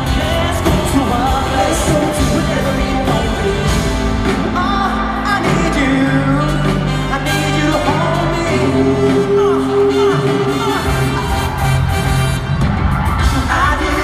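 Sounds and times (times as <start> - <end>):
man singing into microphone: 0.0 - 11.2, 13.2 - 14.0
amplified band playing pop: 0.0 - 14.0.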